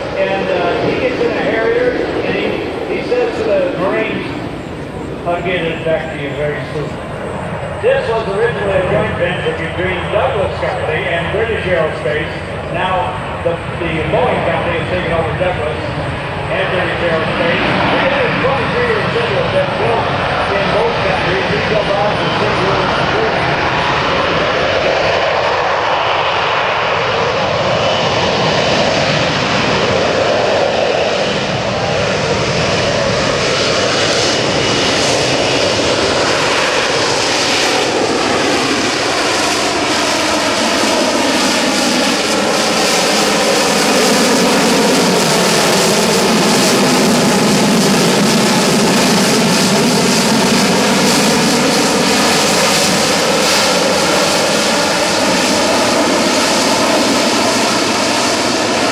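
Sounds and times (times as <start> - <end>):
jet engine roaring: 0.0 - 58.9.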